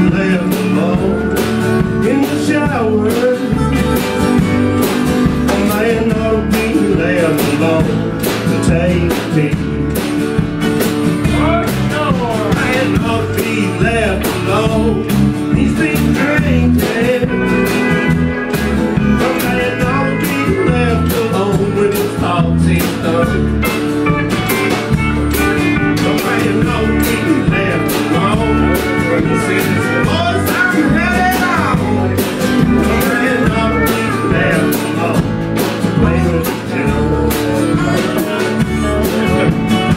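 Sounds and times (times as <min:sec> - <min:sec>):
acoustic guitar: 0:00.0 - 0:39.9
drums: 0:00.0 - 0:39.9
electric bass: 0:00.0 - 0:39.9
pedal steel guitar: 0:00.0 - 0:39.9.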